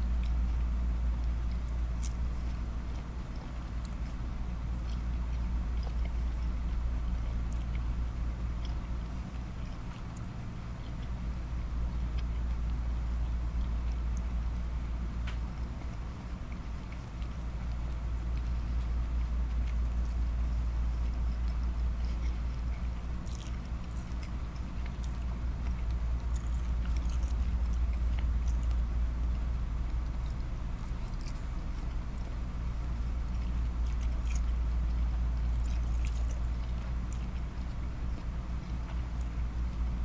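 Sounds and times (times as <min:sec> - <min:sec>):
steady low hum: 0:00.0 - 0:40.0
wet chewing and mouth smacks: 0:00.0 - 0:40.0.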